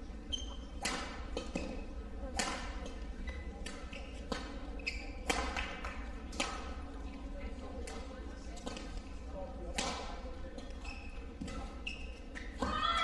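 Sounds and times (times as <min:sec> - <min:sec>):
court shoes squeaking: 0:00.0 - 0:13.0
racket hitting shuttlecock: 0:00.4 - 0:06.8, 0:07.8 - 0:09.0, 0:09.7 - 0:13.0.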